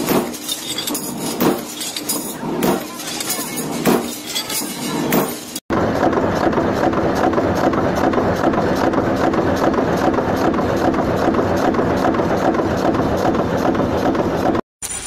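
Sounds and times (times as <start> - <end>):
metal-cutting machine running: 0.0 - 15.0.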